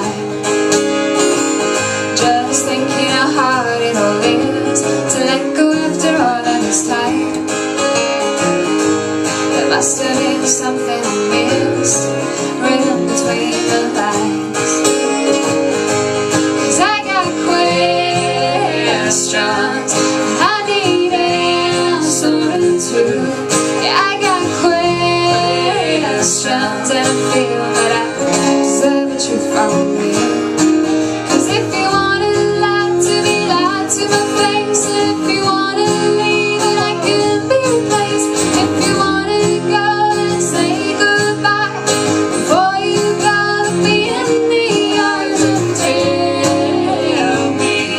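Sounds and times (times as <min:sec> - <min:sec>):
woman singing: 0:00.0 - 0:00.6, 0:02.0 - 0:08.0, 0:09.4 - 0:15.6, 0:16.6 - 0:47.9
guitar chords: 0:00.0 - 0:47.9.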